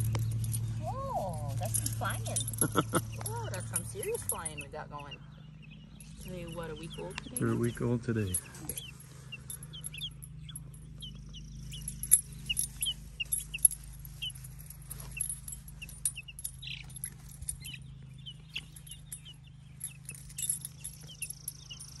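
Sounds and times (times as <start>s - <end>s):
light metallic jingling: 0.0s - 22.0s
chicks peeping: 2.6s - 14.5s, 15.1s - 21.9s.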